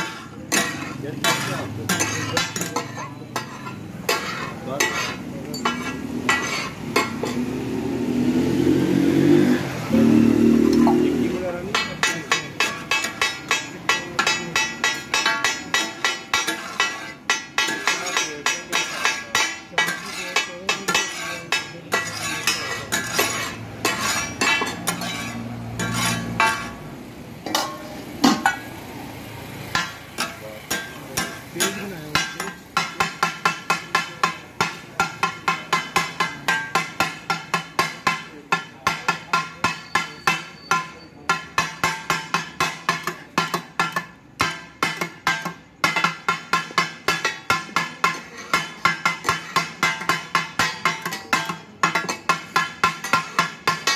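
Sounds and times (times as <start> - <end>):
spatulas clanging on metal griddle: 0.0 - 7.7, 10.8 - 53.9.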